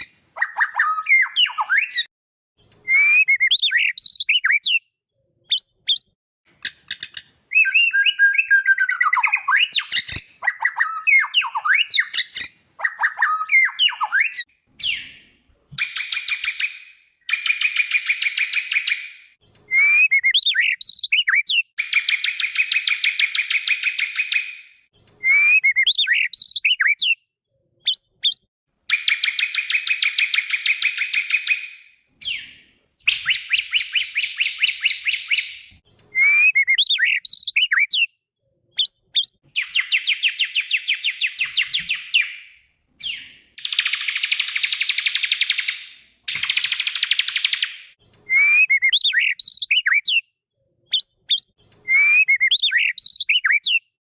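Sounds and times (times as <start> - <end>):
bird whistles and chirps: 0.0 - 2.1, 2.7 - 27.2, 27.8 - 38.2, 38.8 - 50.3, 50.9 - 54.0.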